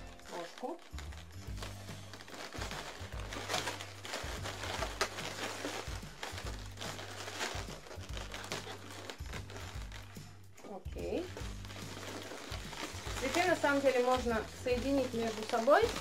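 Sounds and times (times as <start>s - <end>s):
balloons being twisted: 0.0s - 16.0s
background music with bass line: 1.0s - 16.0s.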